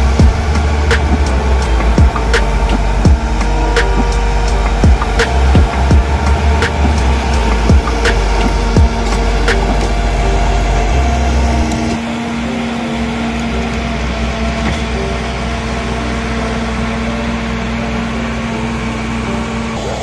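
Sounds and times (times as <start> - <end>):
bulldozer diesel engine rumbling: 0.0 - 20.0.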